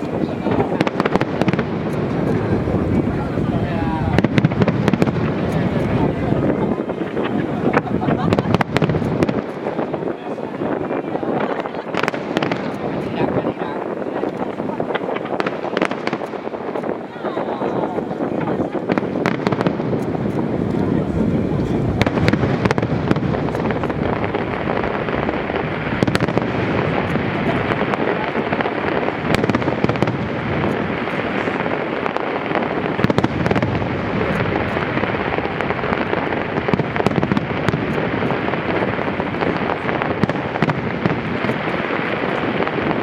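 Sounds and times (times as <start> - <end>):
fireworks booming: 0.0 - 43.0
fireworks cracks and crackle: 0.0 - 43.0.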